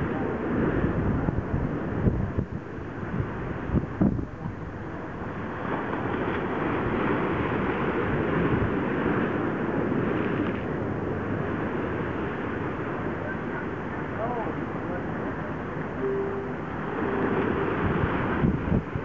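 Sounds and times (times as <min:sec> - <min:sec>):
wind buffeting microphone: 0:00.0 - 0:15.7, 0:16.6 - 0:19.0.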